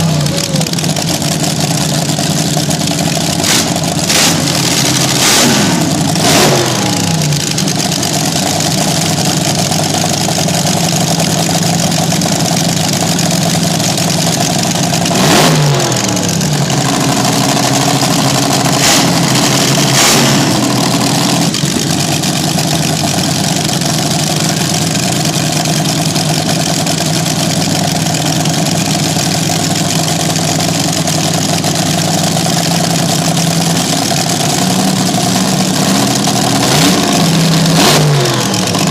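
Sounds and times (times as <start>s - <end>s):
dragster engine idling and revving: 0.0s - 38.9s.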